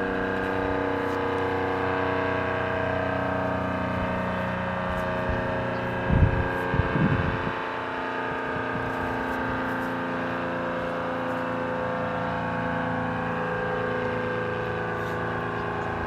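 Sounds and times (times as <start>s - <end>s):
warning siren multi-note tone: 0.0s - 16.0s.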